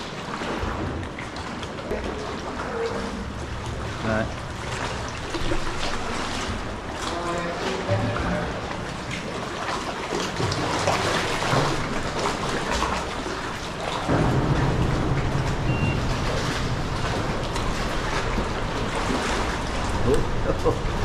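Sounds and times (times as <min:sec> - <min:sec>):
paddle splashes: 0:00.0 - 0:21.0
water lapping against hull: 0:00.0 - 0:21.0.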